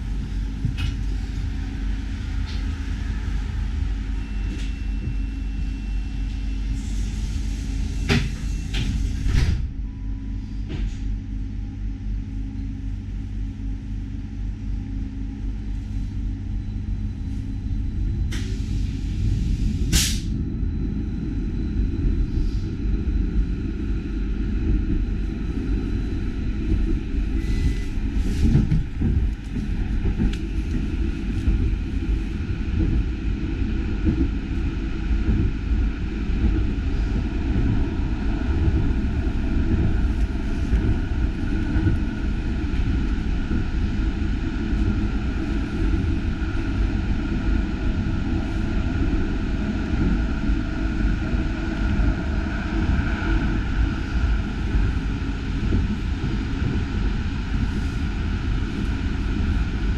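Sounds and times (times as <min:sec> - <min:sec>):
tram rumble and hum: 0:00.0 - 0:59.9.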